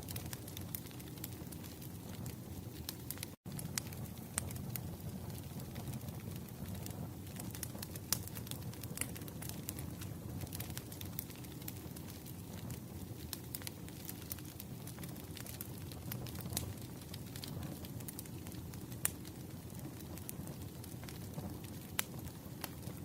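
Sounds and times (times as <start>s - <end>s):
fireplace fire crackling: 0.0s - 23.0s.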